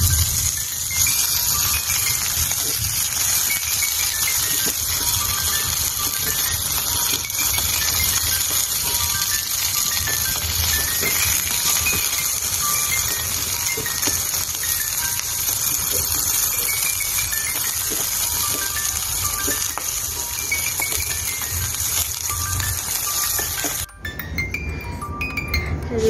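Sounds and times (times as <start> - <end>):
food frying in a pan: 0.0 - 26.0
soft background music: 0.0 - 26.0
chopsticks tapping: 1.0 - 23.9.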